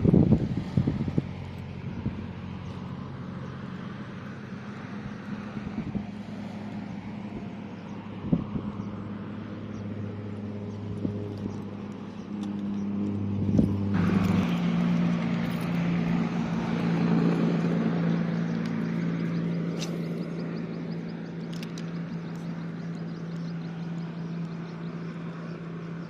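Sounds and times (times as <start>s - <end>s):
rushing road noise: 0.0s - 26.0s
vehicle engine running: 0.0s - 26.0s.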